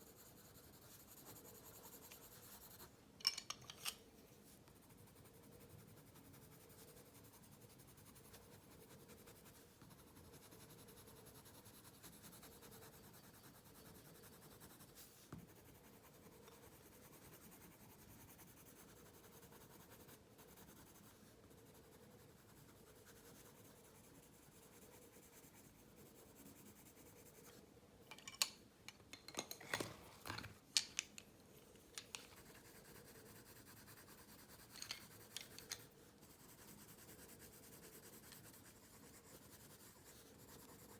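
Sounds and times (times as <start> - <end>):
pencil scratching on paper: 0.0 - 2.9, 4.4 - 27.6, 32.3 - 40.9.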